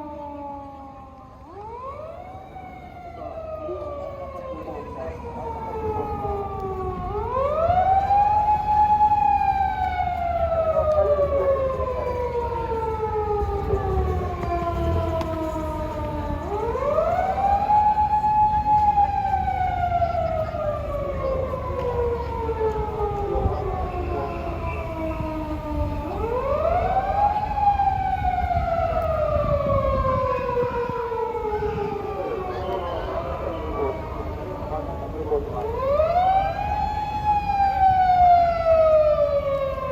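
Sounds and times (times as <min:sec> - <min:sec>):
low traffic rumble: 0:00.0 - 0:39.9
police siren wailing: 0:00.0 - 0:39.9.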